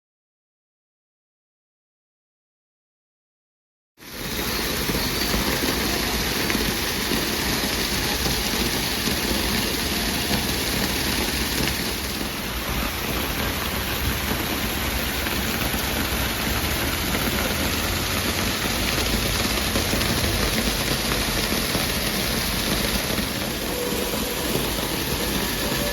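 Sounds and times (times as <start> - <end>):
waterfall roaring: 4.1 - 25.9.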